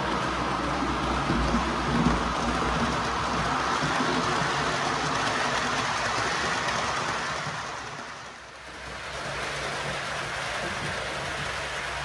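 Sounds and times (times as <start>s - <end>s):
model train wheels on rail: 0.0s - 12.0s.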